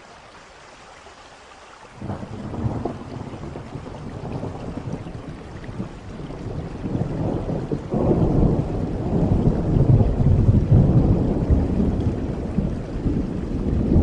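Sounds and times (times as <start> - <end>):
steady rain: 0.0 - 14.0
thunder rumbling: 2.0 - 14.0.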